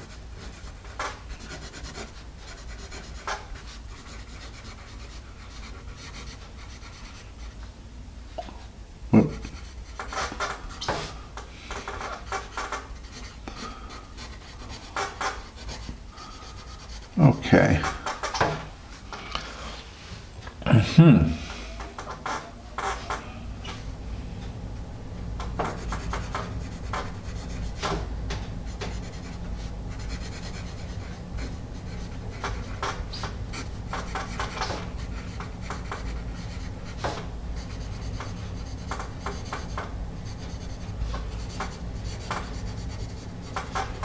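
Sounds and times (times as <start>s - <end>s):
pencil scratching on paper: 0.0s - 7.6s, 9.3s - 18.5s, 25.5s - 44.0s
steady low hum: 0.0s - 44.0s.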